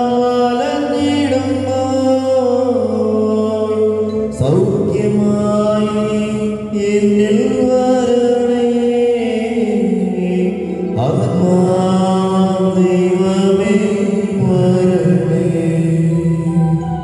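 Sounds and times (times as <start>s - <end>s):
slow chanted hymn: 0.0s - 17.0s.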